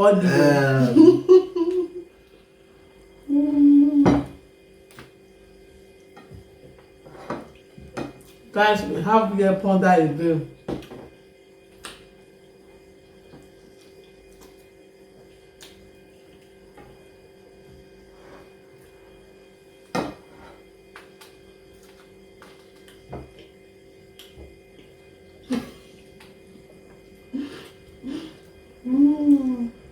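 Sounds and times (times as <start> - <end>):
steady hum: 0.0 - 29.9.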